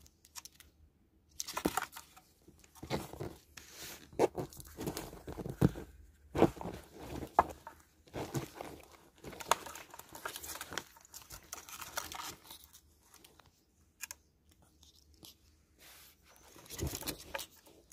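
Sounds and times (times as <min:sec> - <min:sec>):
ferret scuffling and rustling: 0:01.4 - 0:13.6, 0:14.8 - 0:17.9.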